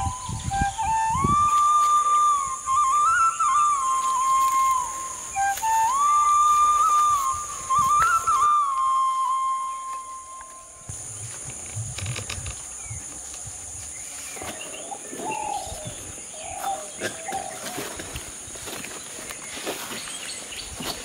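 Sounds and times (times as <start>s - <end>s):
birds calling: 0.0s - 21.0s
high insect drone: 0.0s - 21.0s.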